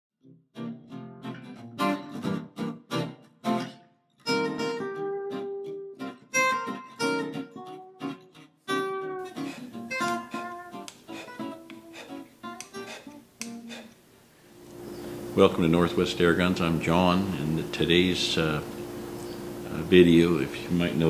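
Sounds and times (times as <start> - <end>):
acoustic guitar music: 0.2 - 14.0, 14.6 - 21.0.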